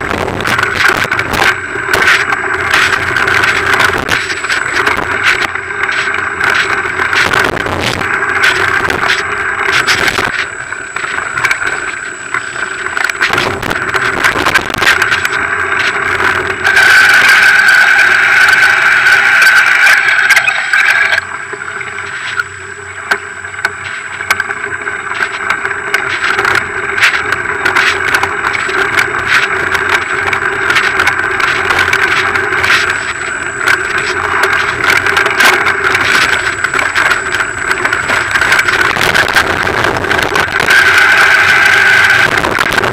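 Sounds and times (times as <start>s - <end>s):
bike rattling and knocking: 0.0s - 18.7s, 23.1s - 42.9s
bike tyre rolling on stony track: 0.0s - 42.9s
rushing noise: 0.0s - 42.9s.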